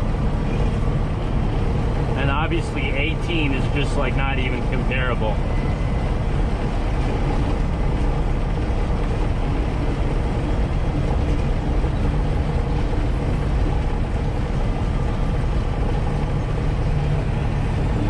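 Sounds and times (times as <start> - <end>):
road rumble: 0.0 - 18.0
truck engine drone: 0.0 - 18.0.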